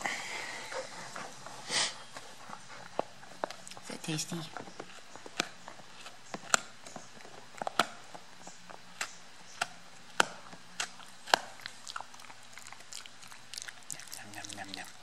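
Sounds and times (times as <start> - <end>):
dog gnawing on chew: 0.7 - 15.0.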